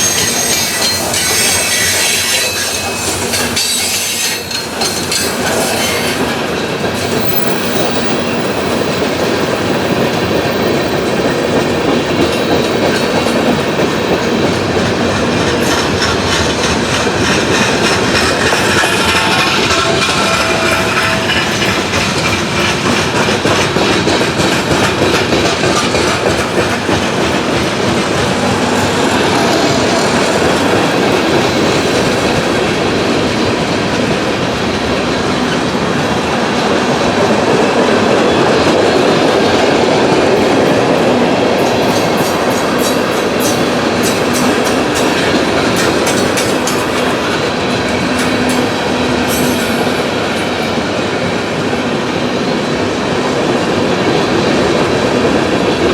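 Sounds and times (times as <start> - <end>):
wheels clicking over rail joints: 0.0 - 52.1
rumble of train wheels on rail: 0.0 - 55.9.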